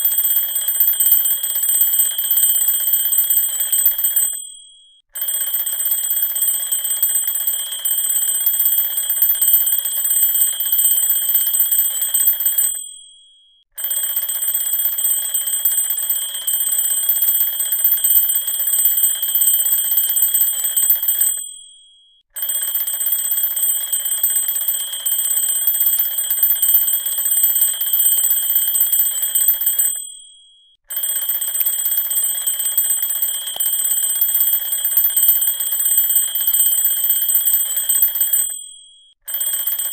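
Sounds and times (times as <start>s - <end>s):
alarm clock ringing: 0.0s - 39.9s.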